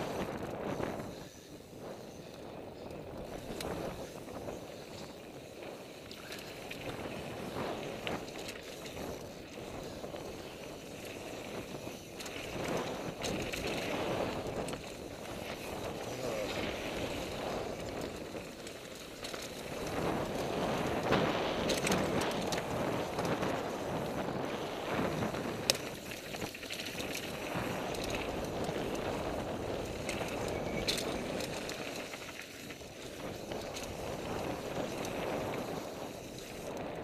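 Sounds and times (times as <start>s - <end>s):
bike rattling and clicking: 0.0s - 37.0s
bike tyres running over dirt: 0.0s - 37.0s.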